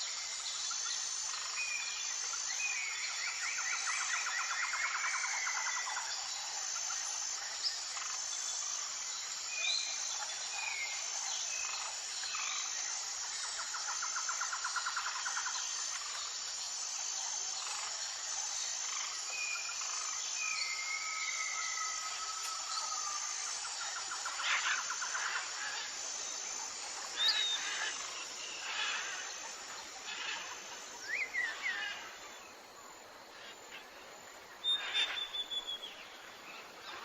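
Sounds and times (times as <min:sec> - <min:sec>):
insects chorus: 0:00.0 - 0:37.0.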